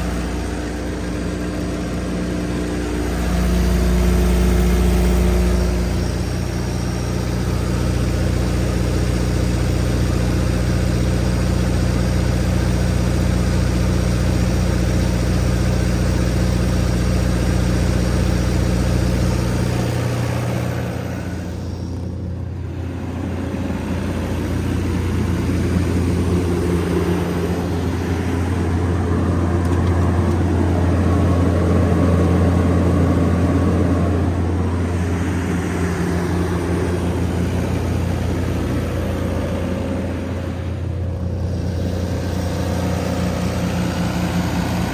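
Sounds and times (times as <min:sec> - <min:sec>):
diesel generator humming: 0:00.0 - 0:44.9.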